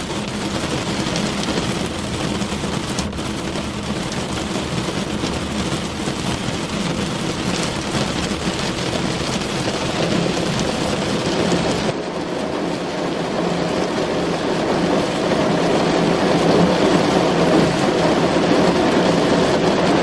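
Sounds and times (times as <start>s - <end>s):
rain on a car: 0.0s - 20.0s.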